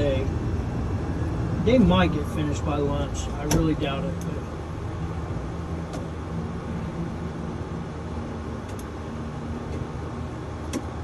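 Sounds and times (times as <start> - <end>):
air conditioner blowing: 0.0 - 11.0.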